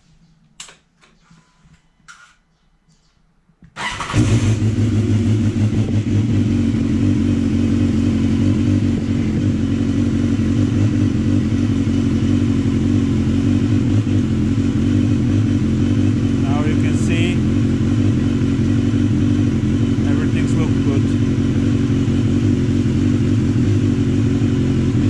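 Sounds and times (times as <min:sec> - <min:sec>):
motorcycle engine starting and idling: 0:03.7 - 0:25.0.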